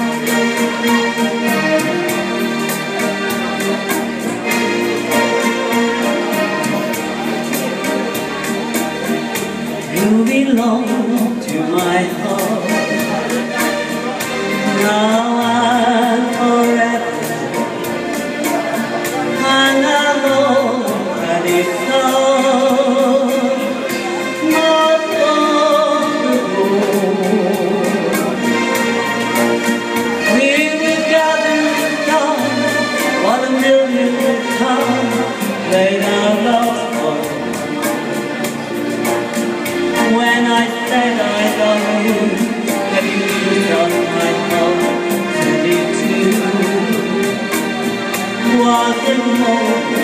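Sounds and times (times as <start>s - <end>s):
woman singing into microphone: 0.0s - 8.1s, 9.2s - 38.6s, 39.6s - 50.0s
musical accompaniment with beat: 0.0s - 50.0s.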